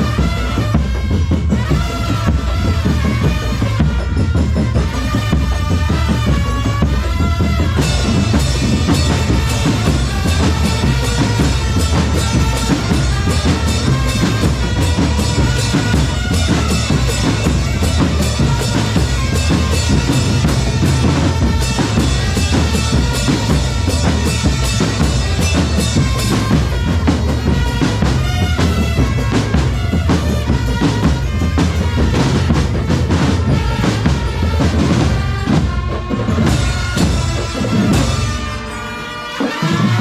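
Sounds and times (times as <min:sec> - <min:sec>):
bass drums: 0:00.0 - 0:38.8
snare drums: 0:00.0 - 0:40.0.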